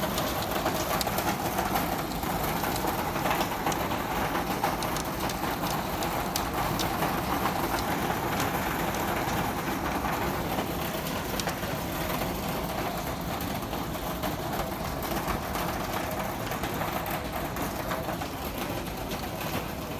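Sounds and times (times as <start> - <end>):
hailstones ticking: 0.0 - 19.9
rain rushing hiss: 0.0 - 19.9.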